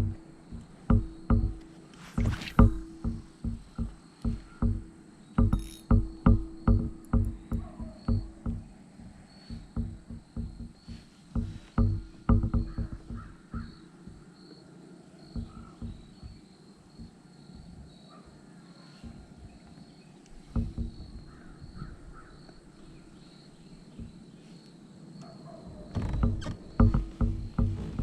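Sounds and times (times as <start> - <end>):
soft low knocks: 0.0 - 28.0.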